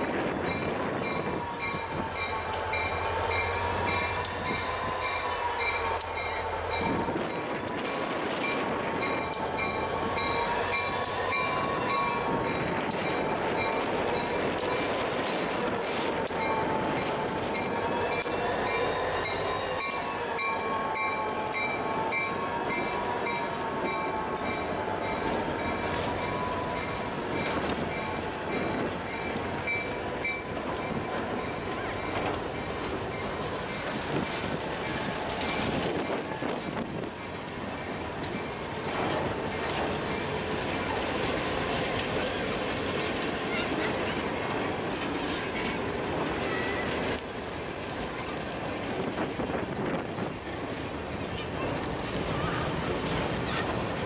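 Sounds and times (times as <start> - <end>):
low train rumble: 0.0 - 54.0
train wheels squealing on rails: 0.0 - 54.0.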